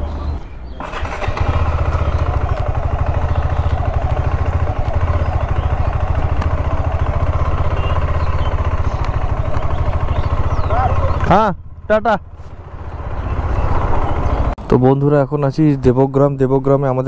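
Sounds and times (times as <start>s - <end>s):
motorcycle engine running slowly: 0.8s - 14.6s.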